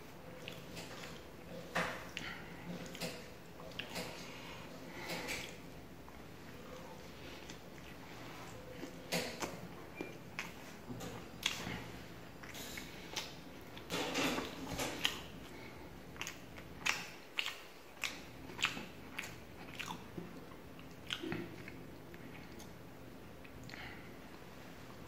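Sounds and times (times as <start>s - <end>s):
chewing and lip smacks: 0.4s - 25.0s.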